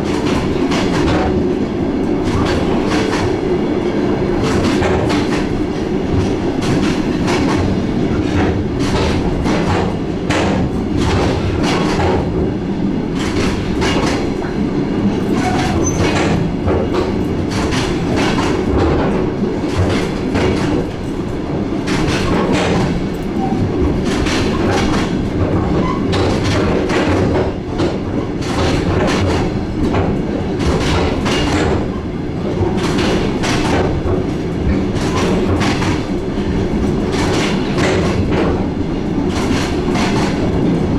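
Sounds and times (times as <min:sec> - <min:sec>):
train rumble from on board: 0:00.0 - 0:40.9.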